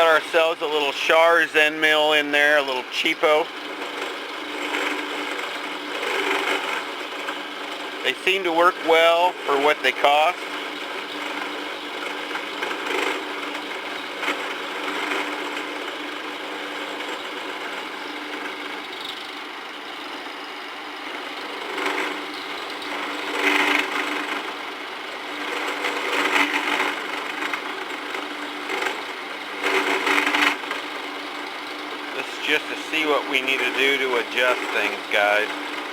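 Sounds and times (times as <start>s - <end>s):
end mill cutting steel: 0.0s - 7.1s, 7.7s - 35.9s
mill motor humming: 0.0s - 35.9s.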